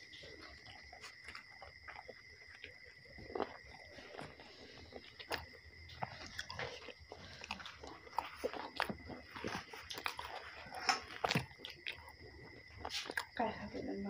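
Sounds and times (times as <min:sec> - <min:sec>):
chewing and lip-smacking: 0:00.0 - 0:13.4.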